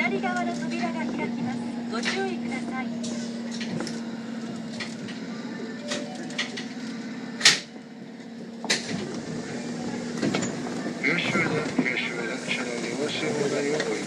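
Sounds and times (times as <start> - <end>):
train electric hum: 0.0 - 14.0.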